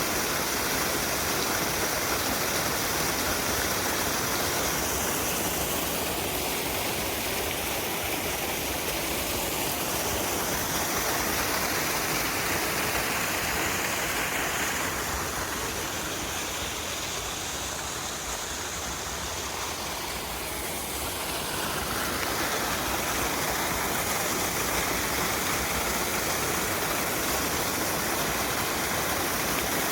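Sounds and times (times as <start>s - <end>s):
waterfall rushing and splashing: 0.0s - 29.9s.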